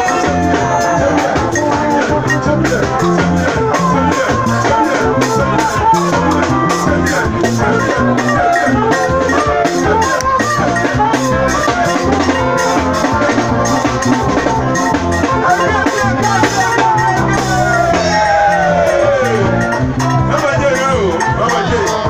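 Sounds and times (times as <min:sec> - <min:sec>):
drum kit beat: 0:00.0 - 0:22.0
live band music: 0:00.0 - 0:22.0.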